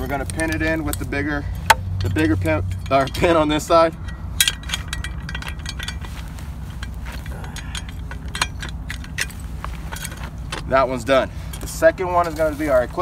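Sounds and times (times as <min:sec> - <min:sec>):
metal clinks and clicks: 0:00.0 - 0:12.4
low steady hum: 0:00.0 - 0:13.0.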